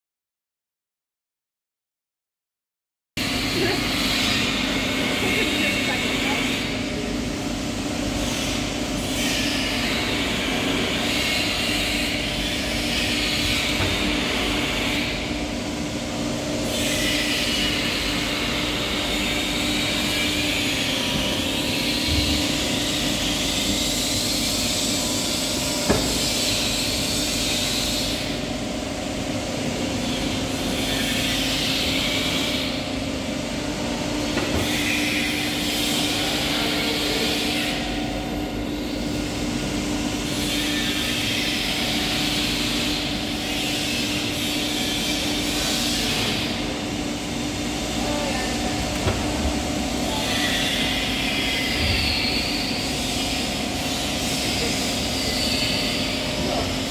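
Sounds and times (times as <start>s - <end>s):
motor and pump humming: 3.2s - 56.9s.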